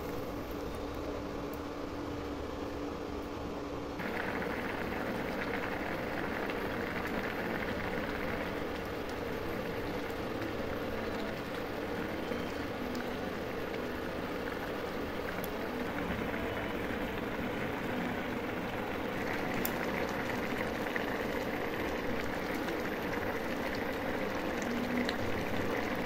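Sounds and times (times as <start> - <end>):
curry bubbling in a pan: 4.0 - 26.0.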